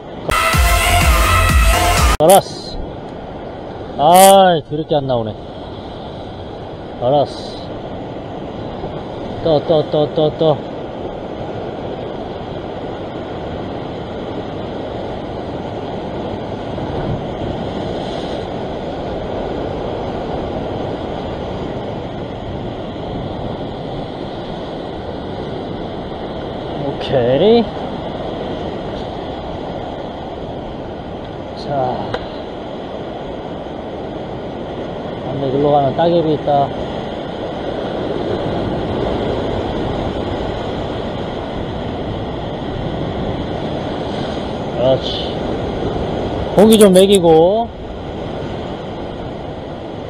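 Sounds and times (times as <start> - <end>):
ocean surf washing against rocks: 2.2 - 50.0.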